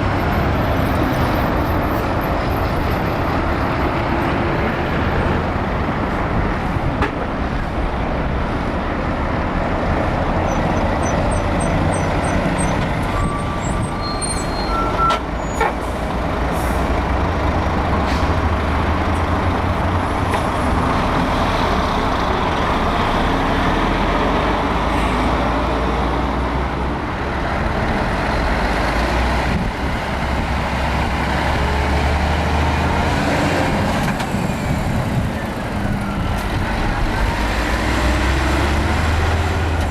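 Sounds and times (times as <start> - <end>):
diesel truck engines droning: 0.0 - 39.9.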